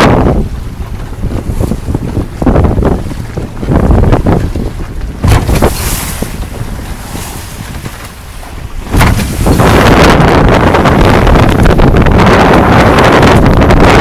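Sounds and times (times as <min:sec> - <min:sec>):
water washing along boat: 0:00.0 - 0:14.0
wind buffeting microphone: 0:00.0 - 0:14.0.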